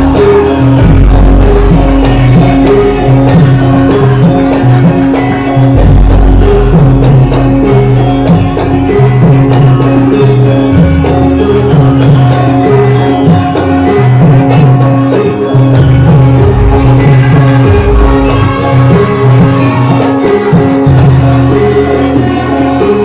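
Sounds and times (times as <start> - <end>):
drum and percussion strikes: 0.0 - 23.0
gamelan music: 0.0 - 23.0.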